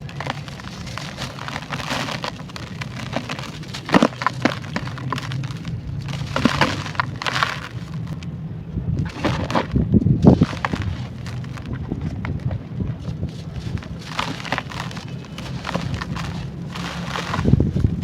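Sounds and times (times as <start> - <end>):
sand-clay chunks crumbling: 0.0 - 8.3, 9.0 - 18.0.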